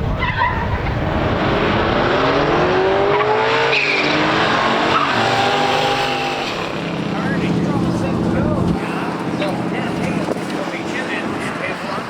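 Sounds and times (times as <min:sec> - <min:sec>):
race car engine accelerating: 0:00.7 - 0:12.0.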